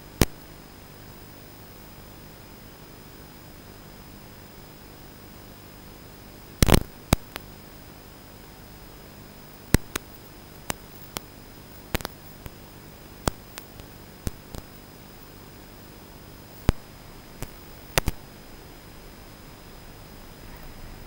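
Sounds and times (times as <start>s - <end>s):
steady hiss with high whine: 0.0s - 21.0s.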